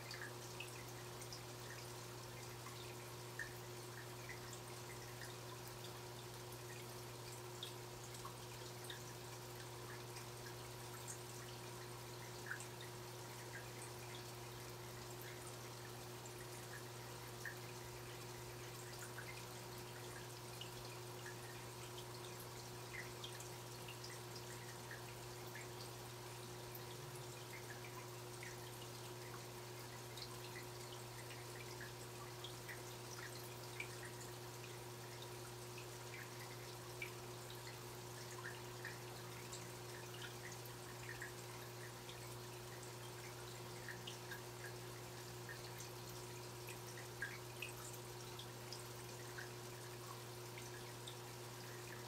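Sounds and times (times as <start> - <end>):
aquarium filter humming: 0.0 - 52.0
water dripping: 0.0 - 52.0.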